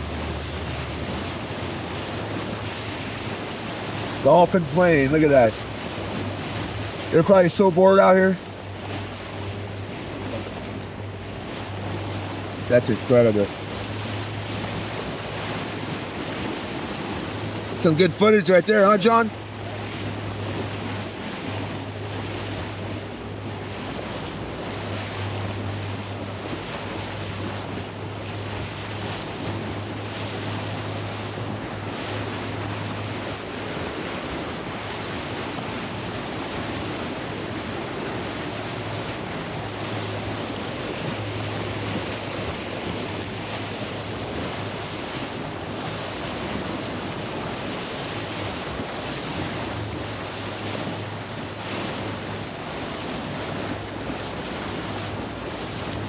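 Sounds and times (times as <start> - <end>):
wind buffeting microphone: 0.0 - 7.2, 8.4 - 18.0, 19.1 - 56.0
low engine drone: 0.0 - 56.0
water rushing along hull: 0.0 - 56.0.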